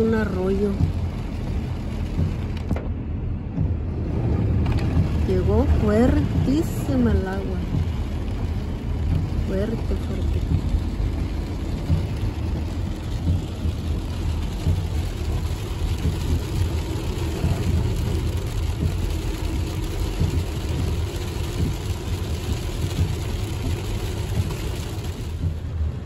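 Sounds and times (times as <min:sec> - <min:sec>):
rain and spray hissing on car: 0:00.0 - 0:26.0
tyre and engine rumble: 0:00.0 - 0:26.0.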